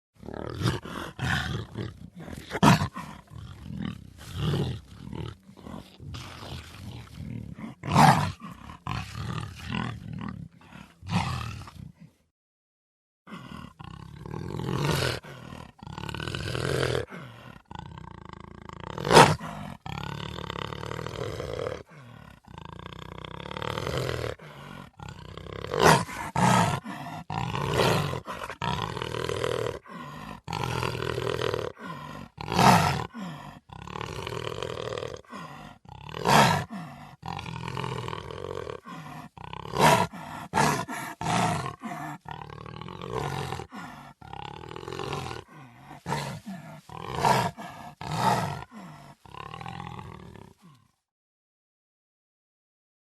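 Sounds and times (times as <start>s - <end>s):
big cat roaring: 0.2s - 12.2s, 13.3s - 51.0s.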